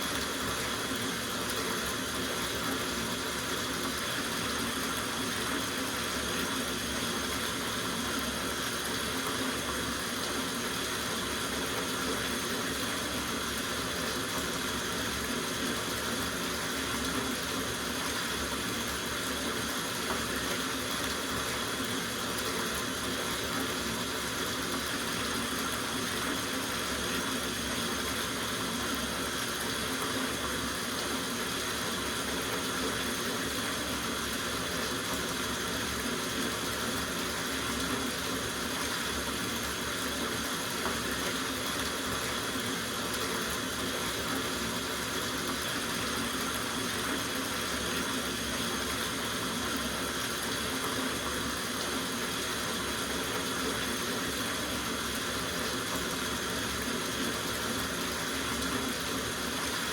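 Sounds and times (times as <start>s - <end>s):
tap water running into bathtub: 0.0s - 59.9s.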